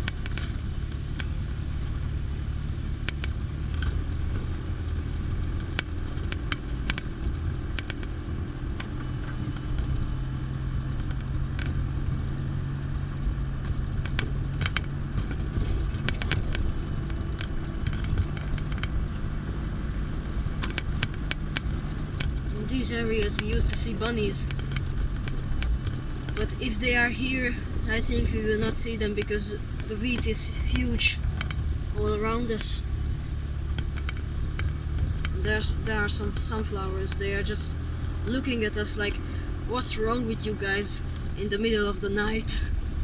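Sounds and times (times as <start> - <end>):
car engine and road rumble: 0.0 - 43.0.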